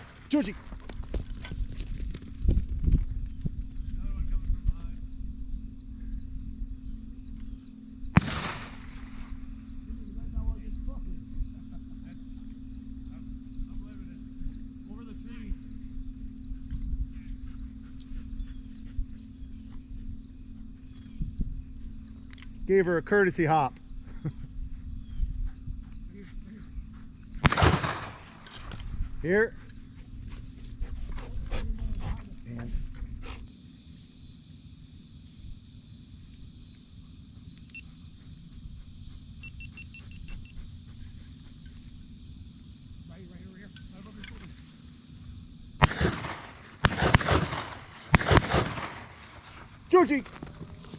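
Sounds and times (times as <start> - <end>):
crickets trilling: 0.0 - 50.9
insects droning: 0.0 - 50.9
faint low hum: 0.5 - 45.8.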